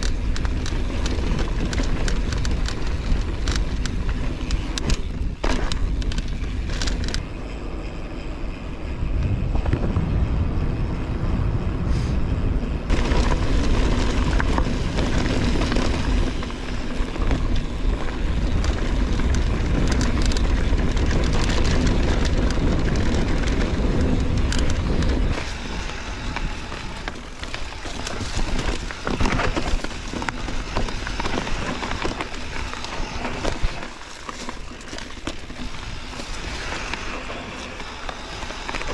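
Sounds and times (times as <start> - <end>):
bike clattering over rough ground: 0.0 - 7.4, 12.9 - 38.9
wind rush on microphone: 0.0 - 38.9.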